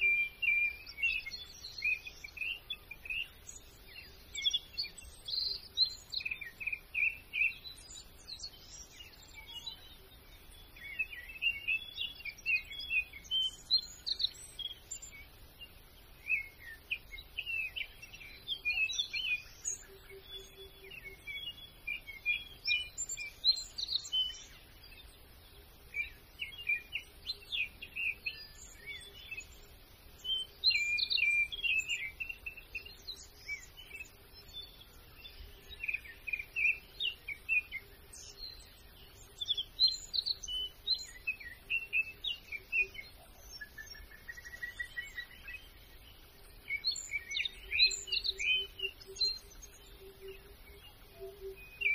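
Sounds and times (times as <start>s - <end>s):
songbirds chirping and singing: 0.0s - 51.9s.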